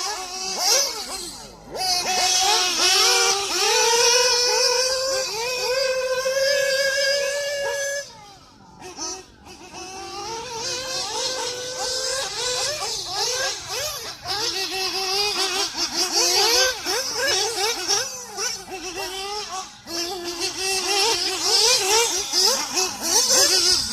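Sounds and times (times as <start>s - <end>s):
small engine revving high: 0.0s - 23.9s.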